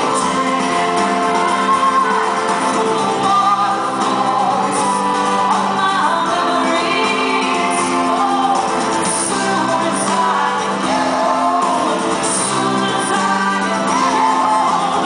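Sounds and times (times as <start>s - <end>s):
acoustic guitar: 0.0s - 15.0s
drums: 0.0s - 15.0s
electric guitar: 0.0s - 15.0s
woman singing: 0.0s - 15.0s.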